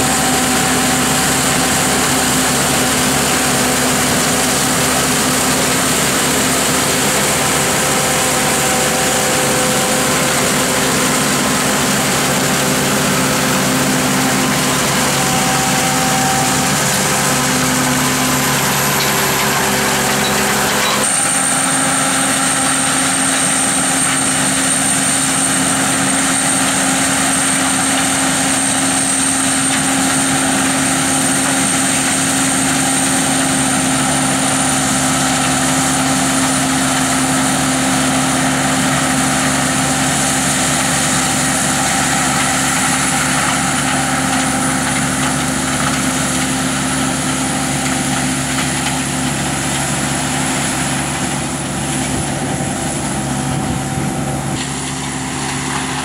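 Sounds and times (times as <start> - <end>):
combine harvester drone: 0.0 - 56.0.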